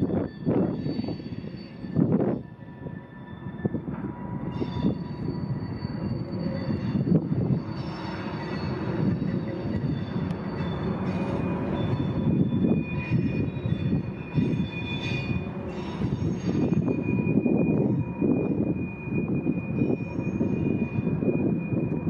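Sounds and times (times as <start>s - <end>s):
freight train rumbling: 0.0s - 22.0s
high wheel squeal: 0.0s - 22.0s
wind buffeting microphone: 0.0s - 22.0s.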